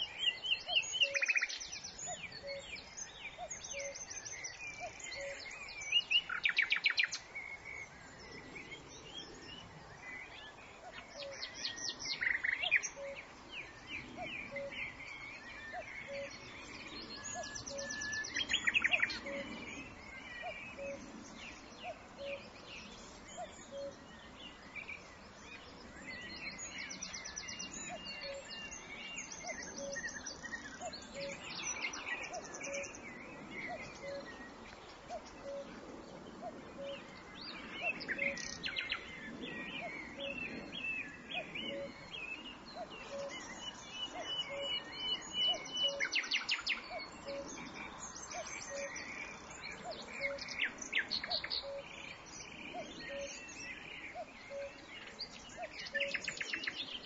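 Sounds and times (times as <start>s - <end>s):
birds chirping and singing: 0.0s - 57.0s
soft outdoor hiss: 0.0s - 57.0s.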